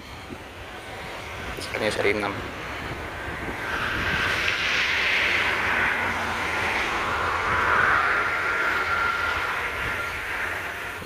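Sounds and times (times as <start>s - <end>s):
faint high whine: 0.0s - 11.0s
vehicle rushing hiss: 0.0s - 11.0s.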